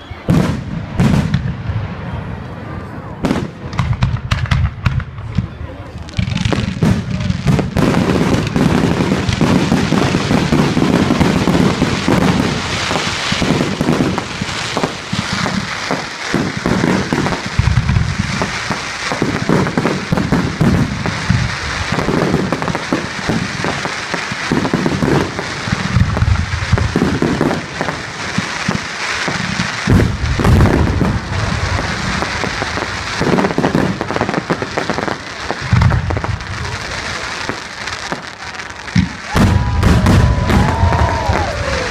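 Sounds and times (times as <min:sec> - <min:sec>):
firework crackling and bangs: 0:00.0 - 0:41.9.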